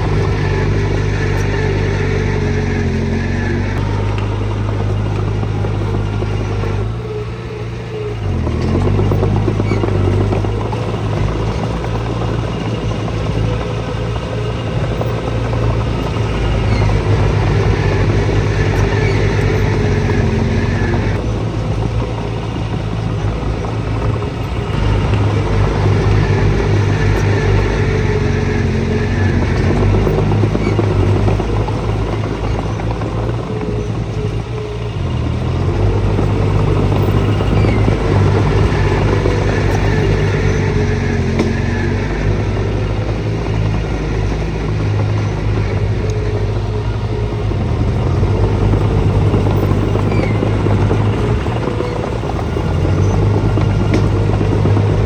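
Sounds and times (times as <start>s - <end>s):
heavy diesel engine under load: 0.0s - 55.0s.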